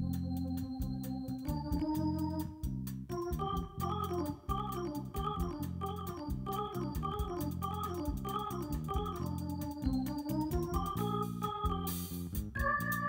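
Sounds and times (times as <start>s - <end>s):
drum kit: 0.0s - 13.0s
electric bass: 0.0s - 13.0s
keyboard organ sound: 0.0s - 13.0s.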